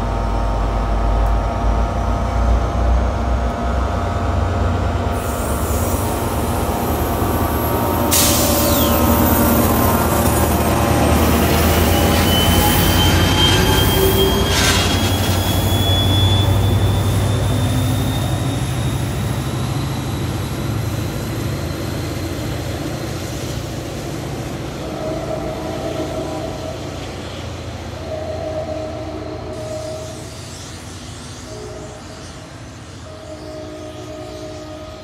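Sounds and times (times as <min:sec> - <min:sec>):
diesel train engine drone and rumble: 0:00.0 - 0:35.0.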